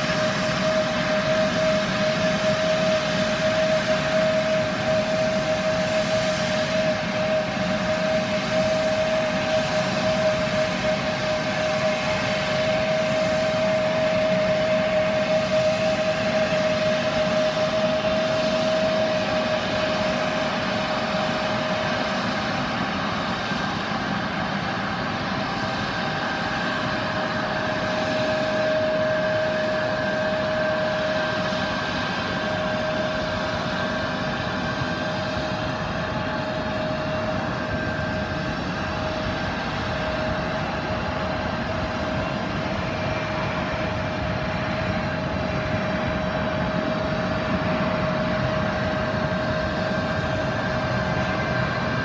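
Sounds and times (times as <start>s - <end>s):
jet engines idling: 0.0s - 52.0s.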